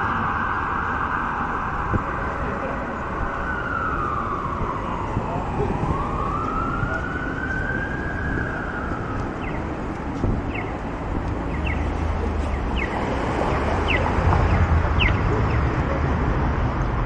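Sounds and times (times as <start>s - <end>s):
street traffic: 0.0s - 17.0s
vehicle engine rumbling: 0.0s - 17.0s.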